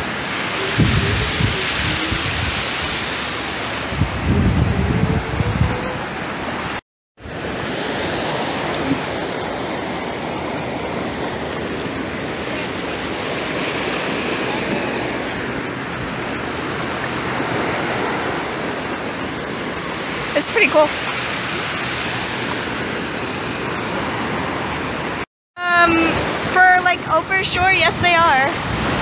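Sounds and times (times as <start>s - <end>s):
ocean surf rushing: 0.0s - 29.0s.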